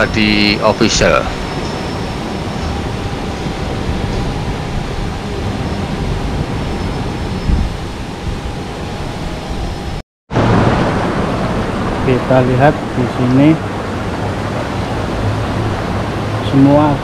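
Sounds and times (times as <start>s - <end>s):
ocean surf: 0.0s - 17.0s
wind on microphone: 0.0s - 17.0s.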